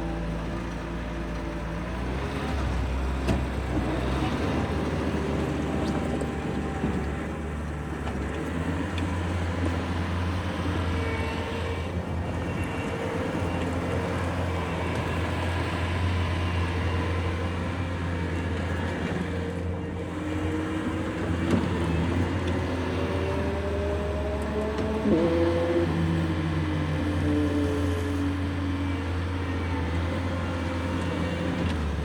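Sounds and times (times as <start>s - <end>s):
diesel engine running under work: 0.0s - 32.0s.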